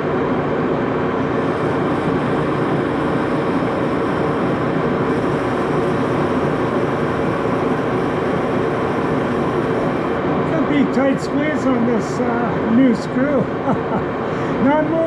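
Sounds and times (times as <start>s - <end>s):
metal lathe running: 1.2s - 15.0s.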